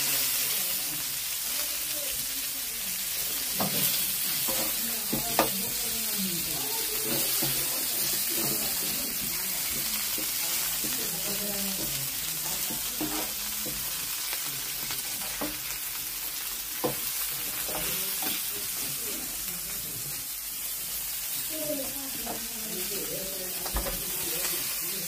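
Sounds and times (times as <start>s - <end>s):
meat and cheese sizzling on griddle: 0.0s - 25.0s.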